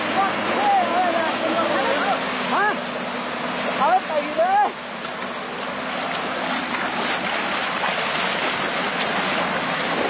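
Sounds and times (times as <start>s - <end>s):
engine hum: 0.0s - 10.0s
water churning and splashing: 0.0s - 10.0s.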